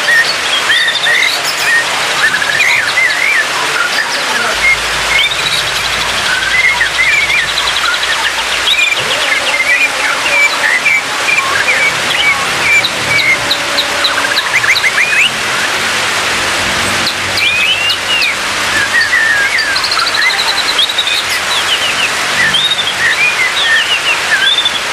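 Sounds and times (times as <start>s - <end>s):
bird singing whistles and trills: 0.0s - 15.7s, 17.0s - 24.9s.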